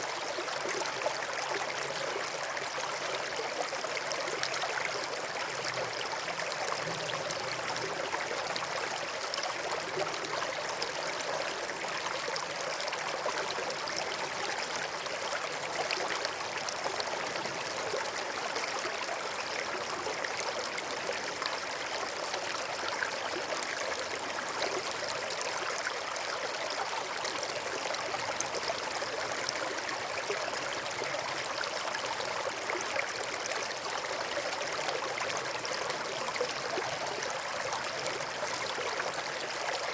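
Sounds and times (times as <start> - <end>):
brook water running: 0.0 - 39.9.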